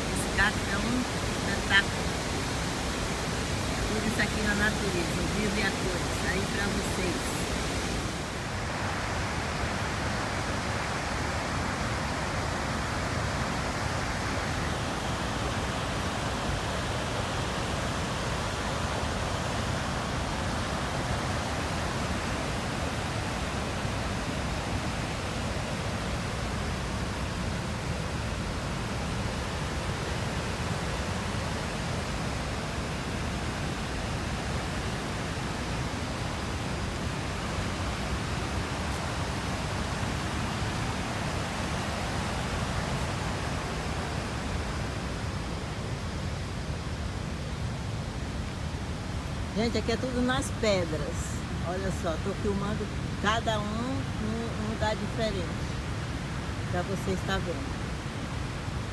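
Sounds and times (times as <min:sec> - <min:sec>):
river and waterfall rushing: 0:00.0 - 0:58.9.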